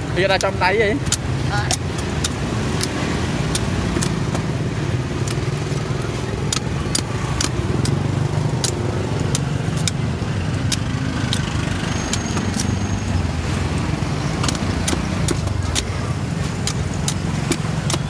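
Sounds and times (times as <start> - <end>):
traffic and engine noise: 0.0 - 18.0
knife chopping coconuts: 0.1 - 13.2, 13.8 - 18.0.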